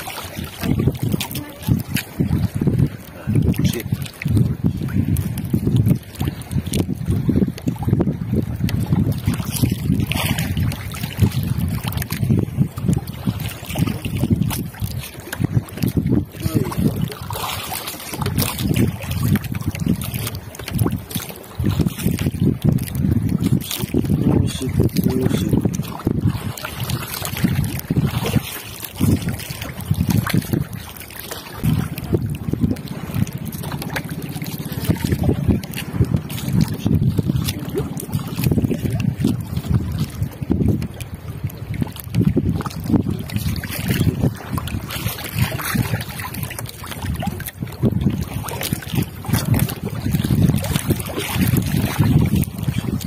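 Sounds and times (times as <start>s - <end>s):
water sloshing against boat hull: 0.0s - 53.0s
wind gusting on microphone: 0.0s - 53.0s.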